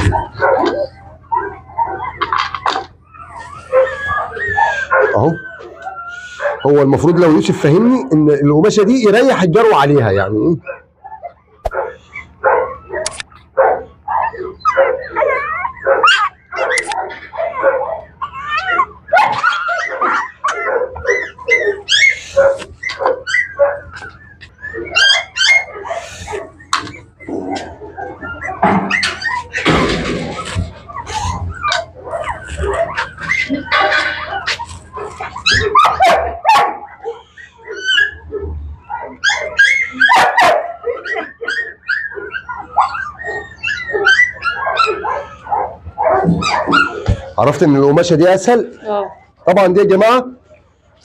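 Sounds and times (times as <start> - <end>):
puppy yelping and whimpering: 0.0 - 51.0.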